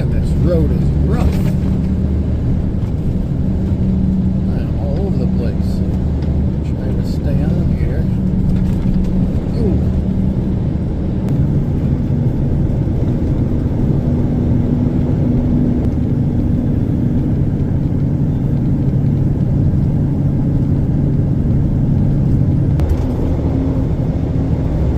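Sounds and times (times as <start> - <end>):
low road rumble: 0.0 - 24.9
truck engine drone: 0.0 - 24.9.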